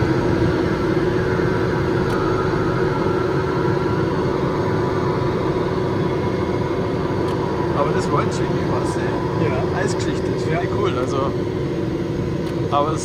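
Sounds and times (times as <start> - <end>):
turboprop cockpit drone: 0.0 - 13.0.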